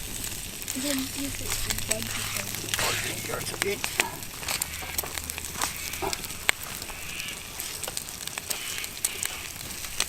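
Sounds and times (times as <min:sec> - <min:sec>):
eggs sizzling in oil: 0:00.0 - 0:10.0
sharp pops and crackles: 0:00.0 - 0:10.0.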